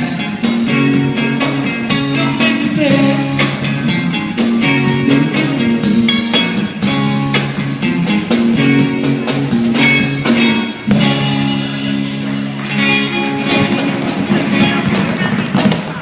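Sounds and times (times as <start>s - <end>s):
band playing blues-rock: 0.0s - 16.0s.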